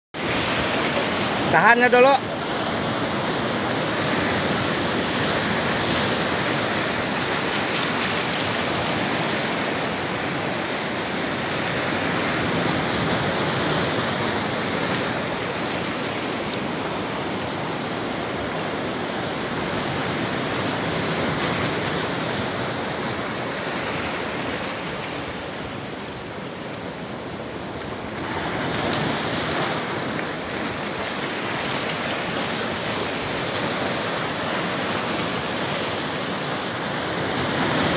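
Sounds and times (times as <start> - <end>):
sea surf breaking: 0.2 - 37.9.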